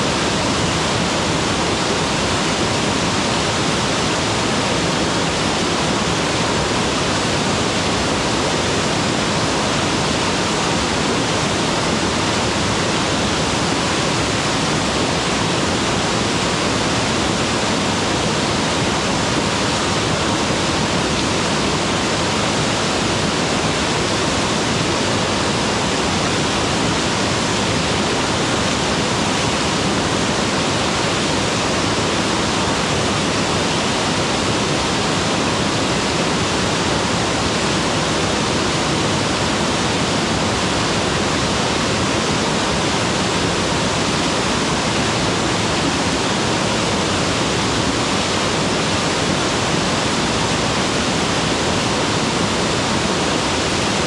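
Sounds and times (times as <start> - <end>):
waterfall pouring and splashing: 0.0 - 54.0.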